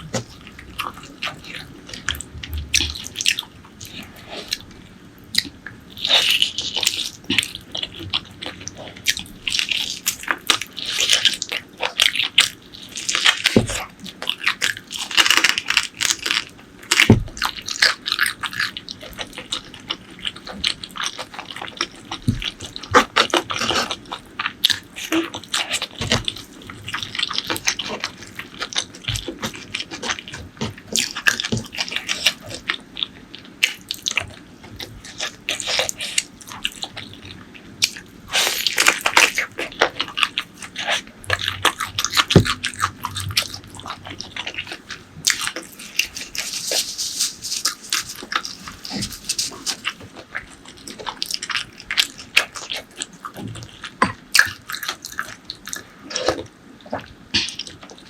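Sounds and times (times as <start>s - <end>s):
chewing and lip-smacking: 0.0s - 58.0s.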